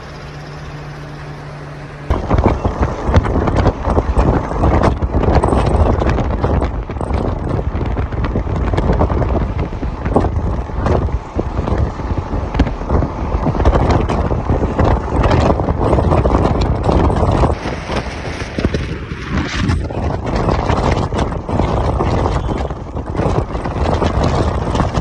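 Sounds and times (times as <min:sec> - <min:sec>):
vehicle rumble: 0:00.0 - 0:25.0
wind buffeting microphone: 0:00.0 - 0:25.0
knocks and rattles: 0:02.1 - 0:11.9, 0:12.5 - 0:25.0.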